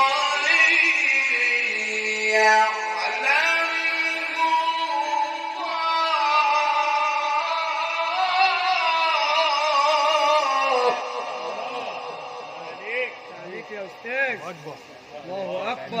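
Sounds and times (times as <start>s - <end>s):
man chanting melodic recitation: 0.0s - 16.0s.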